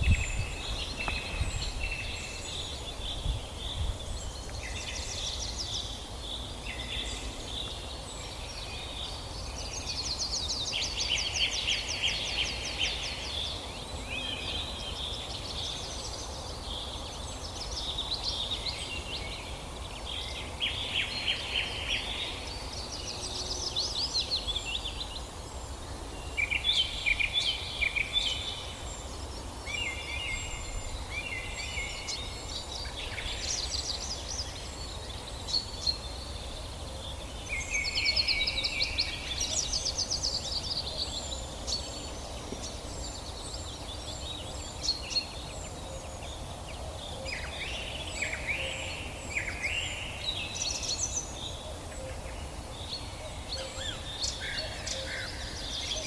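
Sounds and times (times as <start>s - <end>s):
steady low background noise: 0.0s - 56.0s.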